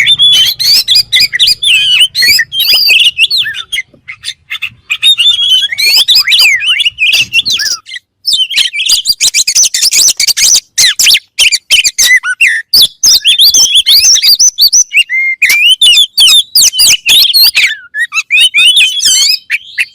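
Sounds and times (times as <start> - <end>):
songbird whistles and trills: 0.0 - 19.9.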